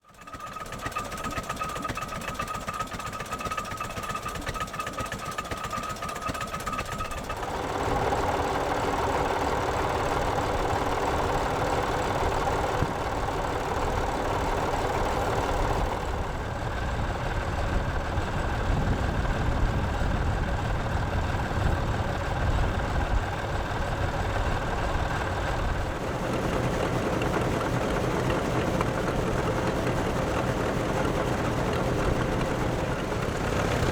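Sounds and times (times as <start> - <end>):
tractor engines running: 0.0 - 33.9.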